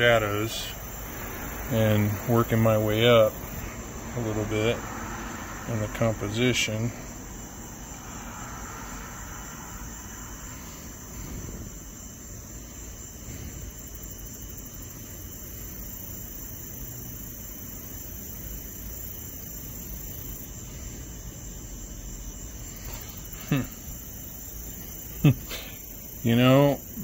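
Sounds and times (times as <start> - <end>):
crickets chirring: 0.0 - 27.0
traffic rumble: 0.0 - 27.0.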